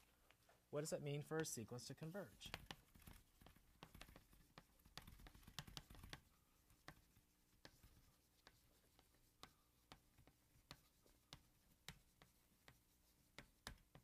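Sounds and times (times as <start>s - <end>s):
writing on a board: 2.1s - 14.0s.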